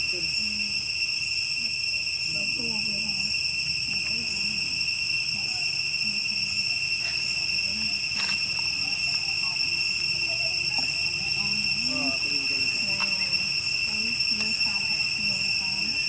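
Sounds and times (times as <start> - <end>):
insects droning: 0.0 - 16.0
low voices murmuring: 1.6 - 16.0.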